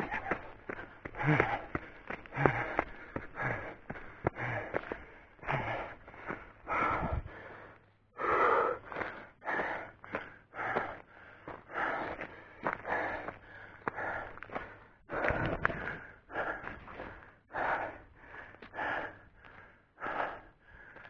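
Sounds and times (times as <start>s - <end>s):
man breathing hard: 0.0s - 21.0s.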